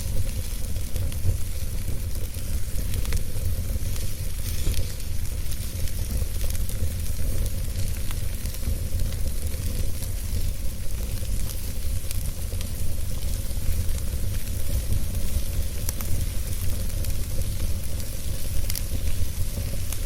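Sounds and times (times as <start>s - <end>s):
wood fire burning: 0.0s - 20.0s.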